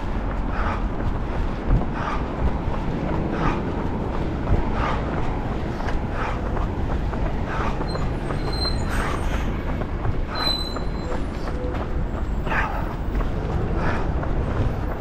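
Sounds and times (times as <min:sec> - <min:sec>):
running footsteps: 0:00.0 - 0:15.0
wind rumble on microphone: 0:00.0 - 0:15.0.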